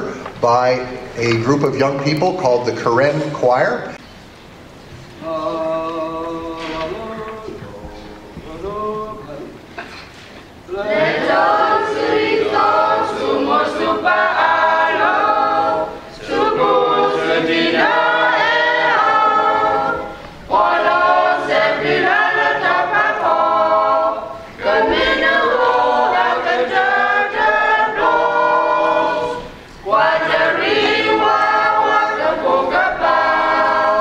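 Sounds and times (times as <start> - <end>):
choir singing unaccompanied: 5.1 - 9.9, 10.6 - 34.0.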